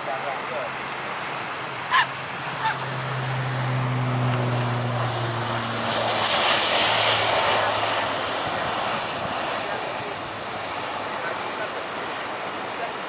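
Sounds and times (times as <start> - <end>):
propeller aircraft passing: 0.4 - 13.0.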